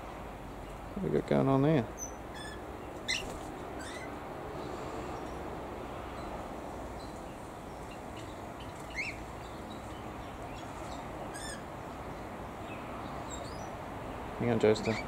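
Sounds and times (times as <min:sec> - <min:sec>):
low background noise: 0:00.0 - 0:15.0
birds chirping: 0:00.6 - 0:15.0.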